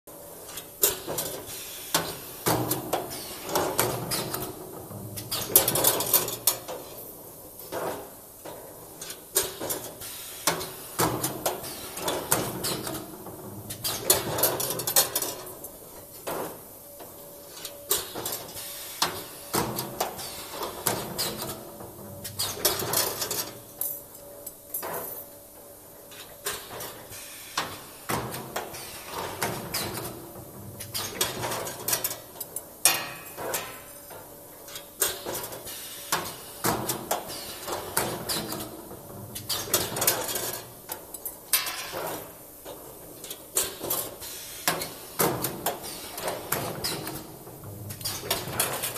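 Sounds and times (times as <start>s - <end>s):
wire bending machine clatter: 0.5s - 7.0s, 9.0s - 16.6s, 17.5s - 24.2s, 27.6s - 33.9s, 34.7s - 48.9s.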